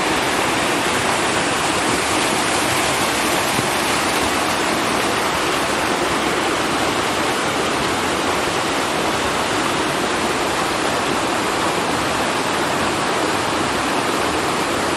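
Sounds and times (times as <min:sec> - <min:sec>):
small waterfall splashing: 0:00.0 - 0:14.9.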